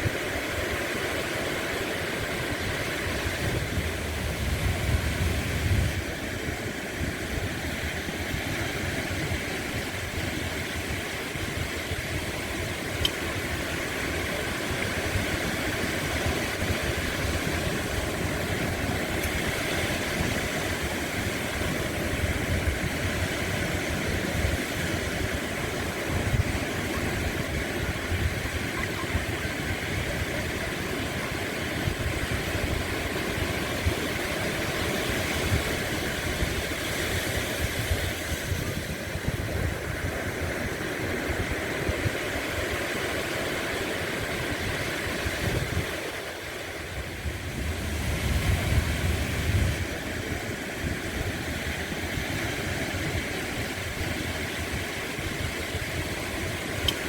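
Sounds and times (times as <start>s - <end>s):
sea waves: 0.0s - 57.0s.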